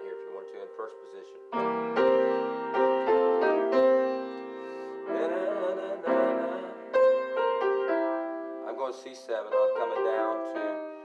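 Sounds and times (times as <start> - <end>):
piano blues chords: 0.0 - 11.0.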